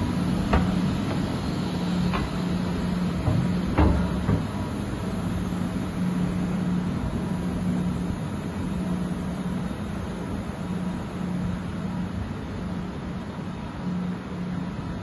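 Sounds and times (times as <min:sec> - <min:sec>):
industrial hall hum: 0:00.0 - 0:15.0.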